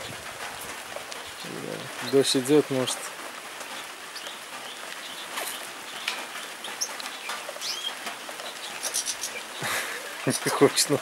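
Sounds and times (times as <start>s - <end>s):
rain falling: 0.0s - 11.0s
songbirds chirping: 0.0s - 11.0s.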